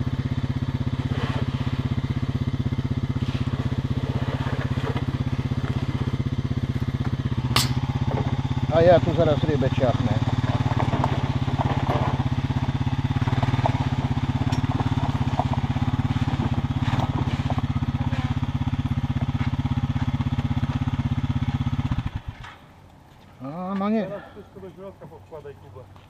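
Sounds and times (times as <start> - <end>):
small petrol engine running: 0.0 - 22.6.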